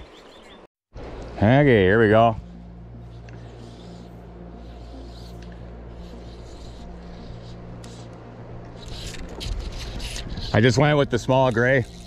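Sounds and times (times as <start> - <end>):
low hum: 1.0 - 12.0.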